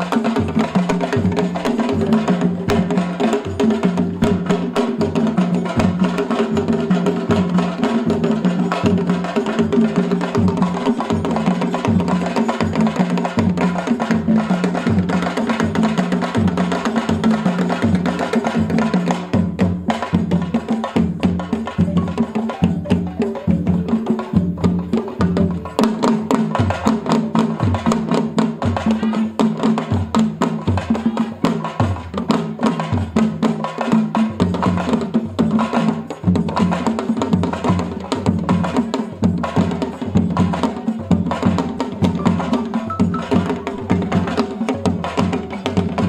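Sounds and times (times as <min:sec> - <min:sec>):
hand drum ensemble playing: 0:00.0 - 0:46.0.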